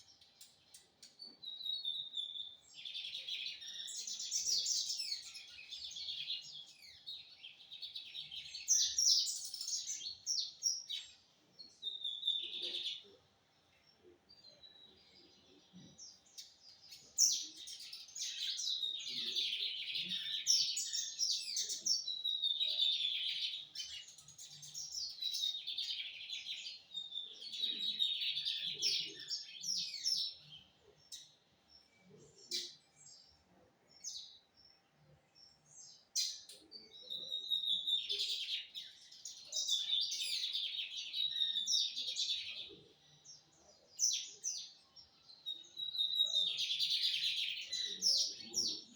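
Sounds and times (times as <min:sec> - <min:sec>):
bird twittering song: 0:00.0 - 0:48.9.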